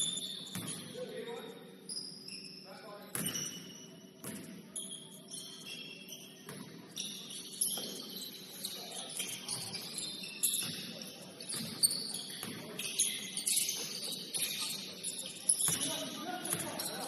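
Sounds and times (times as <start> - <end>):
shoes squeaking on gym floor: 0.0 - 17.0.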